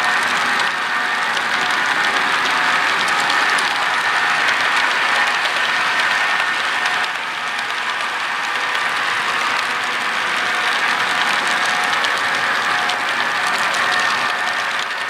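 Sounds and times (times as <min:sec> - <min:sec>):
model train wheels on rails: 0:00.0 - 0:15.0
faint clicking: 0:01.4 - 0:15.0.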